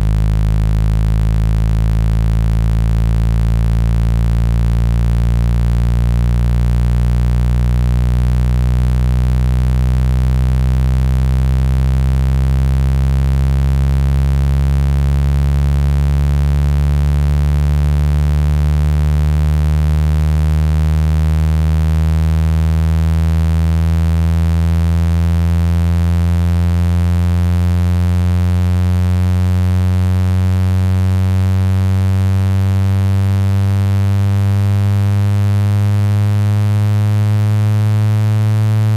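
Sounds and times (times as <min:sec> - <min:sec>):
buzzing low synthetic tone: 0:00.0 - 0:38.9.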